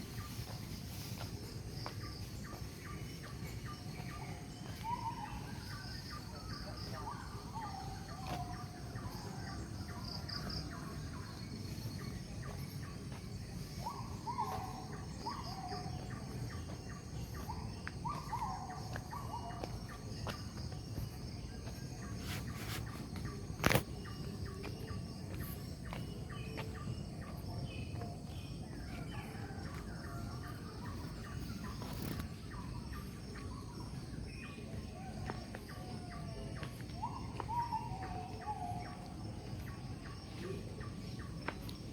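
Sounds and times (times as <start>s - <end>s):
birds calling: 0.0s - 41.9s
insects chirping: 0.0s - 41.9s.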